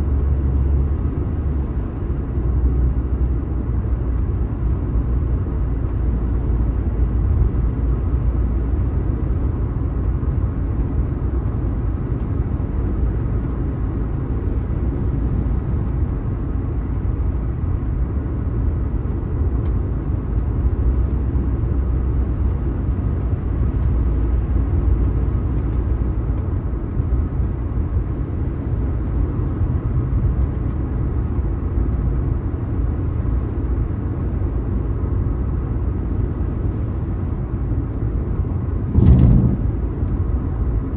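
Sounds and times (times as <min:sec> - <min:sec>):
road and tyre rumble inside car: 0:00.0 - 0:40.9.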